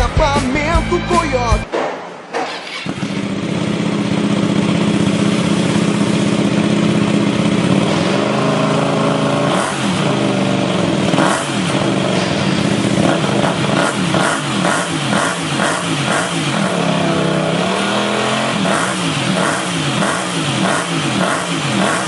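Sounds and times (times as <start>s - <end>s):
motorcycle engine revving: 2.4s - 22.0s.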